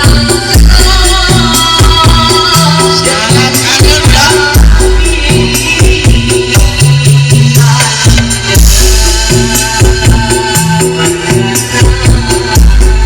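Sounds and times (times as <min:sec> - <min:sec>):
loud music with booming bass: 0:00.0 - 0:13.0.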